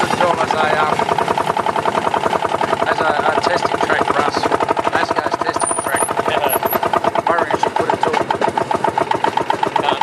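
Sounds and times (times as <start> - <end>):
engine exhaust popping: 0.0 - 10.0.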